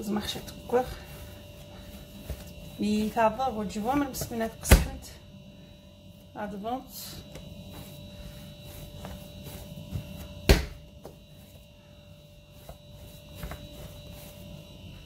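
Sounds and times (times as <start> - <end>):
dough kneaded by hand: 0.0 - 15.0
electrical hum: 0.0 - 15.0.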